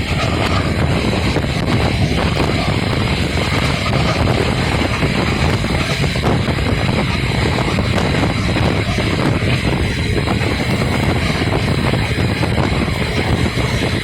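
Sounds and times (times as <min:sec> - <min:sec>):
faint steady whine: 0:00.0 - 0:14.0
train wheels rumbling on rail: 0:00.0 - 0:14.0.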